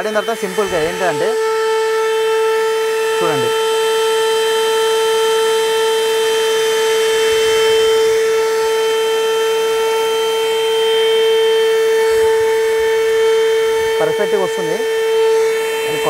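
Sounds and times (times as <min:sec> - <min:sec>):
handheld vacuum cleaner whining: 0:00.0 - 0:16.0.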